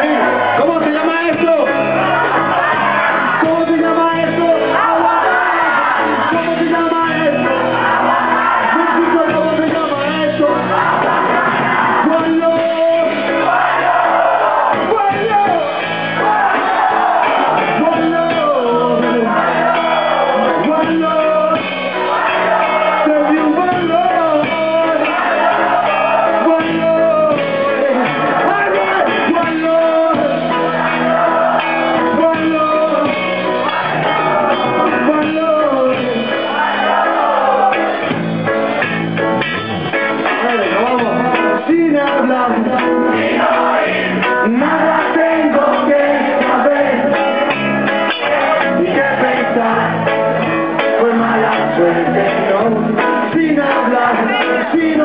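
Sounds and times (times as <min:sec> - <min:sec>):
bass and drums: 0:00.0 - 0:55.0
guitar melodic line: 0:00.0 - 0:55.0
reggae band playing: 0:00.0 - 0:55.0.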